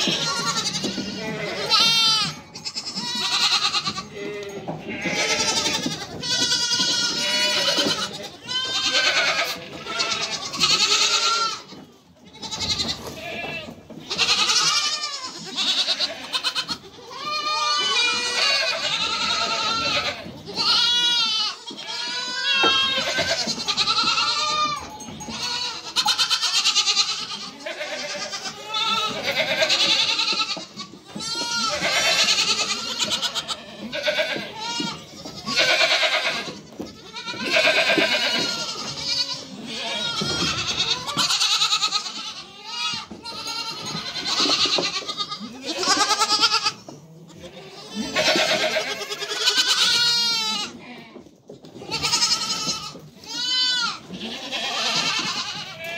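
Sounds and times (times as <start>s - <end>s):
goat kids bleating: 0.0s - 55.9s.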